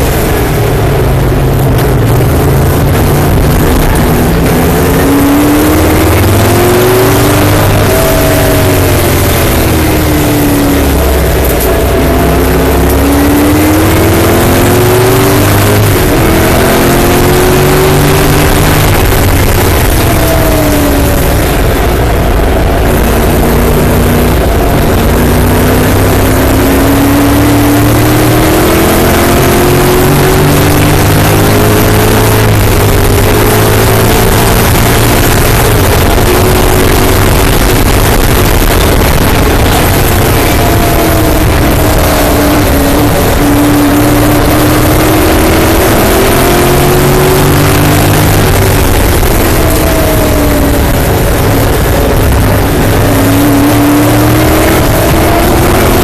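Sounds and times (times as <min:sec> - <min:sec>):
race car engine accelerating: 0:00.0 - 0:56.0
wind and road noise: 0:00.0 - 0:56.0.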